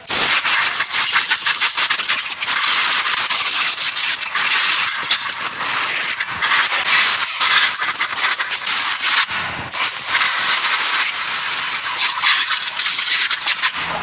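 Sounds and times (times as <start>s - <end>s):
aerosol spray hissing: 0.0s - 11.9s.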